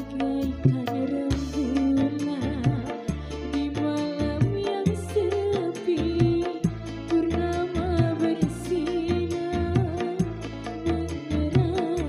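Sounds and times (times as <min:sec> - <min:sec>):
electronic keyboard melody: 0:00.0 - 0:12.0
hand drums: 0:00.0 - 0:12.0.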